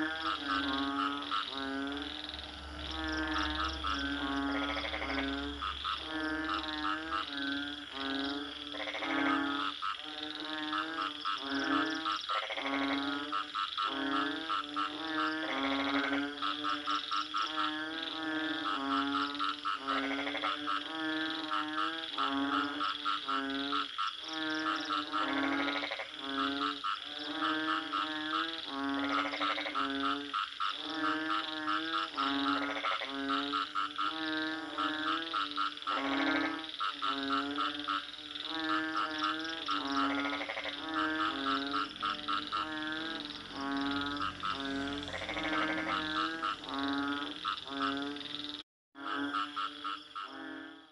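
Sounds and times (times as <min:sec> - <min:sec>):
frogs croaking: 0:00.0 - 0:50.9.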